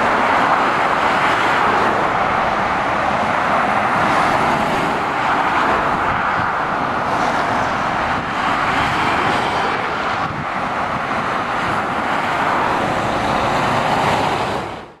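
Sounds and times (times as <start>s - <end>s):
motorway traffic passing: 0.0s - 15.0s.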